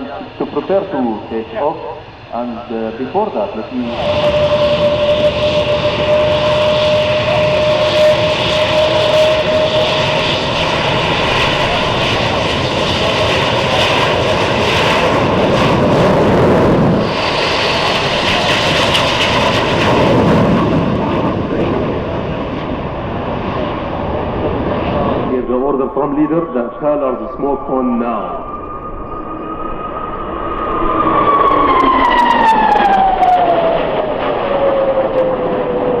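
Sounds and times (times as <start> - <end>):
jet engines running: 0.0 - 36.0
steady engine whine: 0.0 - 36.0.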